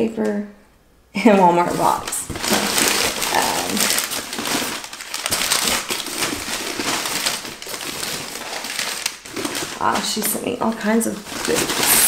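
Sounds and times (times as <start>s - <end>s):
paper crackling in a cardboard box: 1.6s - 12.0s.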